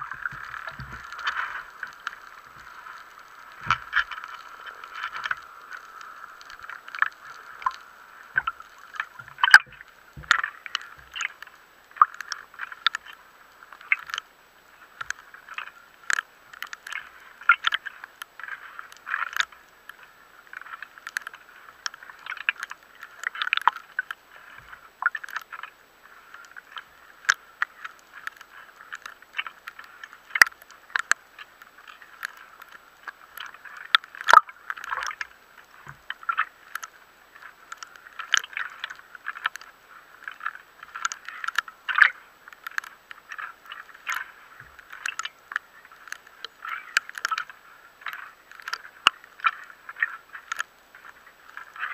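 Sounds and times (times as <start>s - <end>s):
muffled underwater water noise: 0.0s - 51.9s
water sloshing and gurgling: 0.0s - 51.9s.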